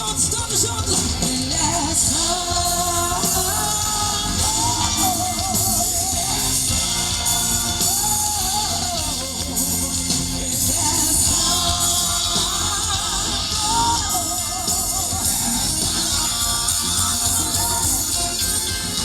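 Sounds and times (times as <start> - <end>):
drums and cymbals: 0.0 - 19.0
live band playing: 0.0 - 19.0
woman singing: 0.1 - 19.0.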